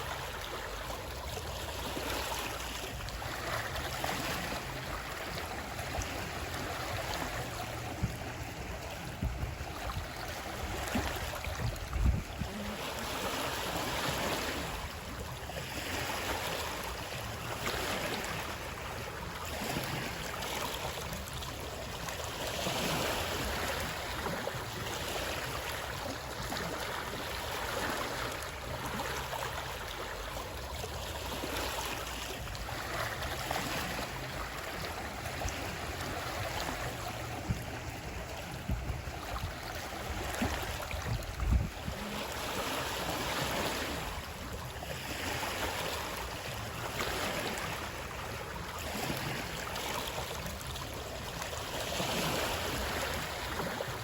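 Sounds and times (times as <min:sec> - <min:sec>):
water flowing and splashing: 0:00.0 - 0:54.0.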